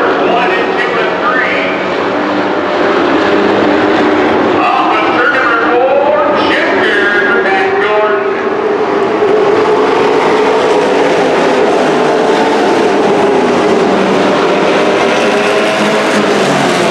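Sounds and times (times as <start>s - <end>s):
racing truck engines droning: 0.0s - 16.9s.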